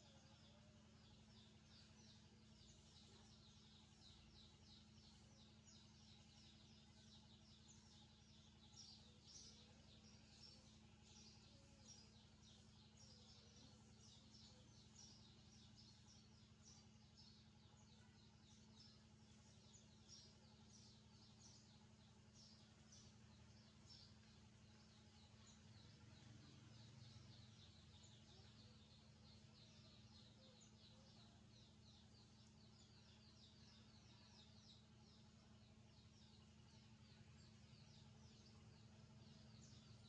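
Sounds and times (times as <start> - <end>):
small birds chirping: 0.0 - 40.0
steady low hum: 0.0 - 40.0.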